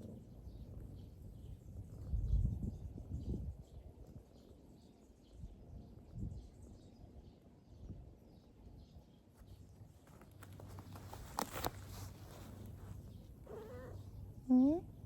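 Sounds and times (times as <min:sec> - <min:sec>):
faint countryside ambience: 0:00.0 - 0:15.0.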